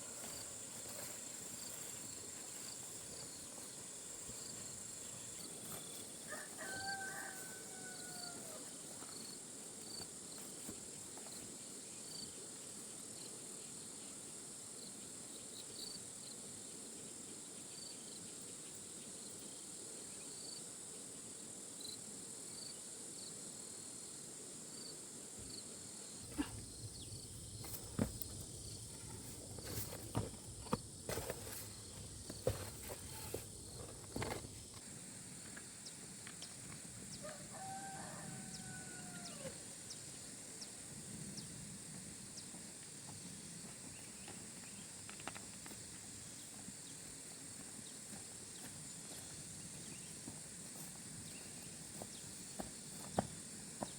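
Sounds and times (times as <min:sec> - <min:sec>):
insects droning high-pitched: 0:00.0 - 0:53.9.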